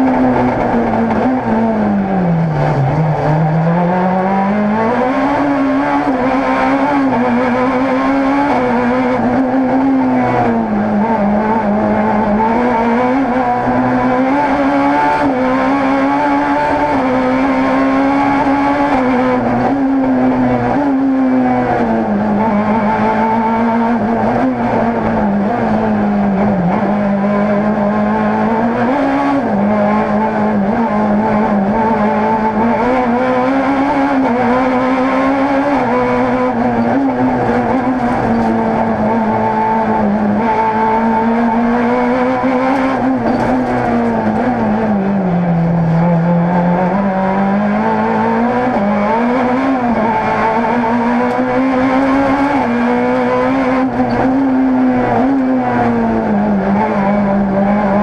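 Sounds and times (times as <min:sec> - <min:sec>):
rally car engine at high revs: 0:00.0 - 0:58.0.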